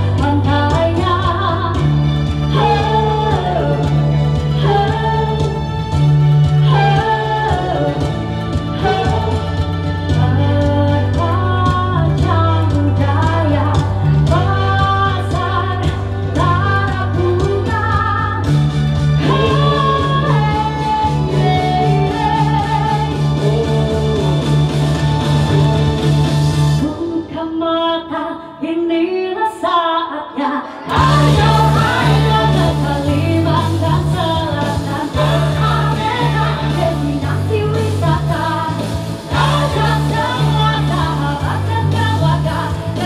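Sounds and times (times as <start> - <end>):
woman singing: 0.0 - 5.8, 6.4 - 18.6, 19.2 - 24.7, 26.8 - 43.0
live pop band: 0.0 - 43.0.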